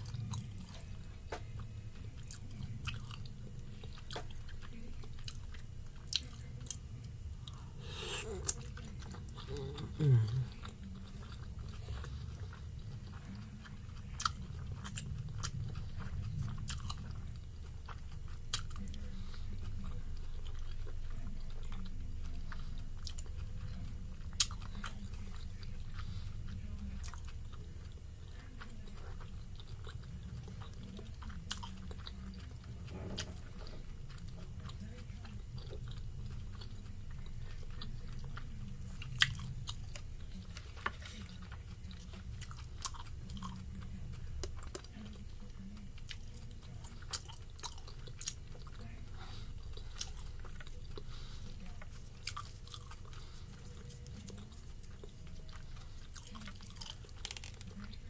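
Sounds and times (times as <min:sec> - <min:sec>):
soft wet chewing: 0:00.0 - 0:58.0.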